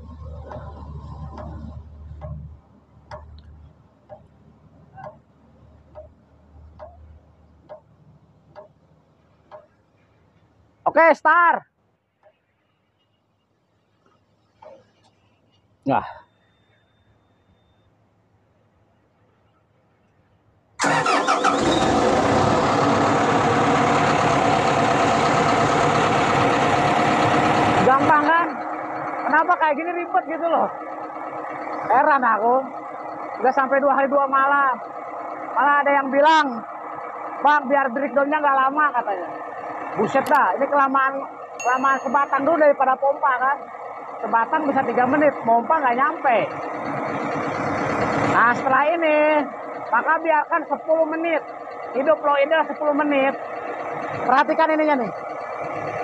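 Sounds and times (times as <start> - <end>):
diesel engine starting and running: 0.0 - 10.9, 20.6 - 56.0.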